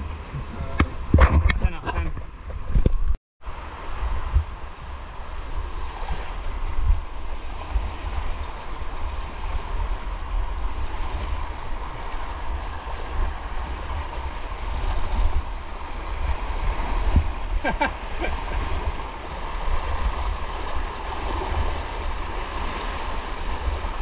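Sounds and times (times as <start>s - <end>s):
rushing stream water: 0.0s - 24.0s
wind buffeting microphone: 0.0s - 24.0s.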